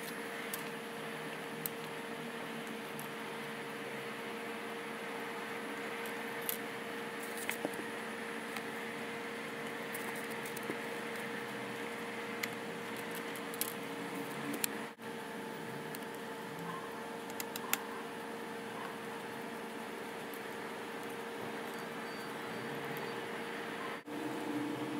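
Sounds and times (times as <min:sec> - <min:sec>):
faint hum: 0:00.0 - 0:24.9.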